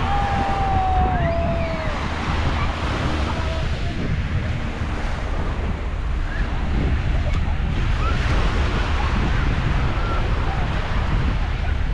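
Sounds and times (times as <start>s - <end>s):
small waves breaking on beach: 0.0s - 11.9s
wind buffeting microphone: 0.0s - 11.9s.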